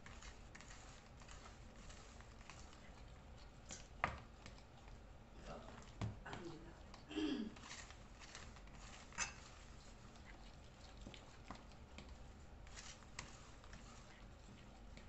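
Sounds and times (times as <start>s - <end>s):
hand mixing sticky batter: 0.0s - 15.0s.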